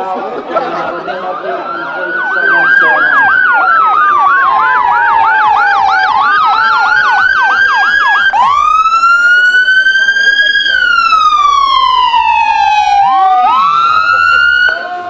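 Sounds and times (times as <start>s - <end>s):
ambulance siren: 0.6s - 15.0s.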